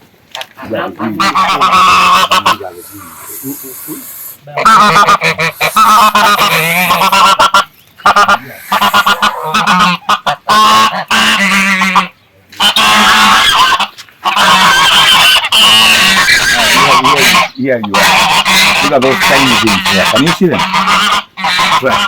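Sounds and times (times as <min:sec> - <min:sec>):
geese honking: 0:00.4 - 0:22.0.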